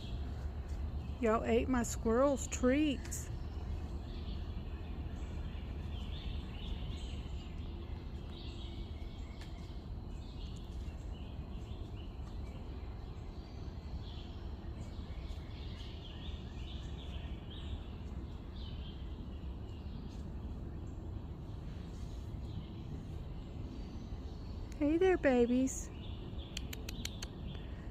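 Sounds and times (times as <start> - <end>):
small birds chirping: 0.0 - 27.9
steady low rumble: 0.0 - 27.9.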